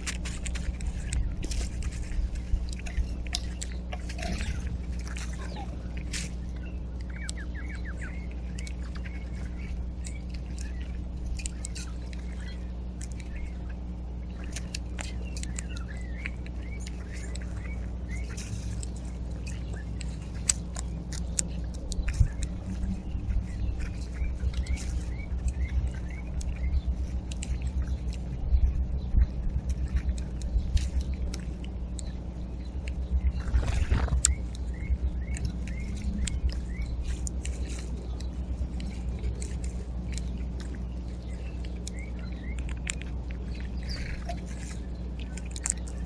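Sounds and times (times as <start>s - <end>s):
small birds chirping: 0.0s - 46.0s
steady low hum: 0.0s - 46.0s.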